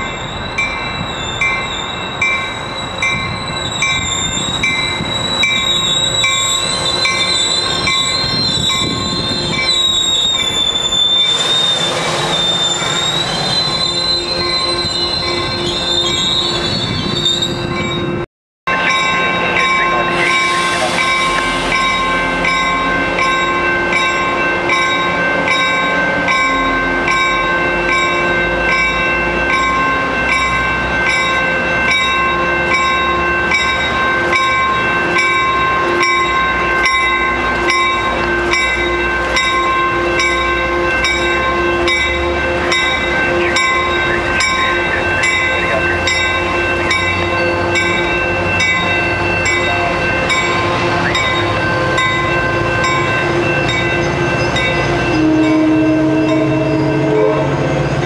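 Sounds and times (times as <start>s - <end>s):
train wheel squeal: 0.0s - 18.2s, 18.9s - 58.0s
crossing bell ringing: 0.0s - 58.0s
train hum: 0.0s - 58.0s.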